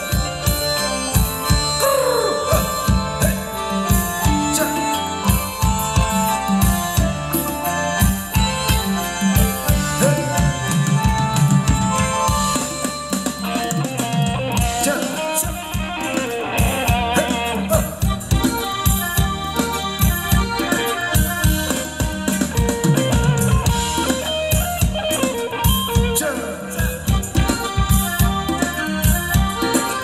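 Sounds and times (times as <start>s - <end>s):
instrumental dance band music: 0.0s - 30.0s.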